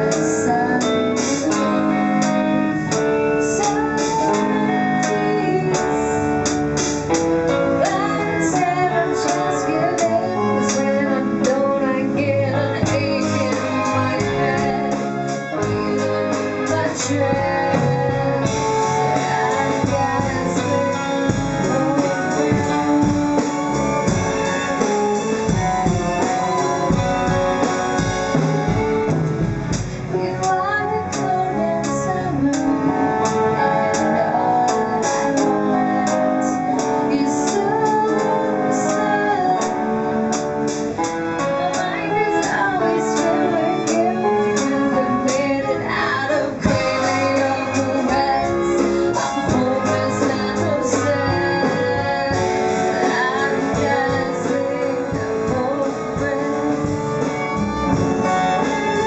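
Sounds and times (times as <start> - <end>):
song with guitar and singing: 0.0 - 59.0.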